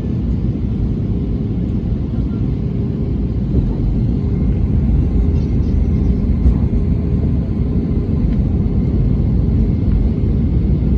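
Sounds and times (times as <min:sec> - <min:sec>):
airliner engine rumble: 0:00.0 - 0:10.9.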